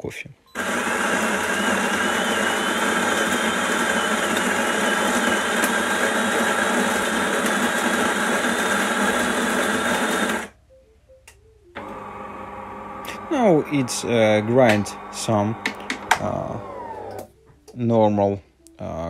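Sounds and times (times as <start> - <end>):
coffee grinder running: 0.6 - 10.5, 11.8 - 17.3.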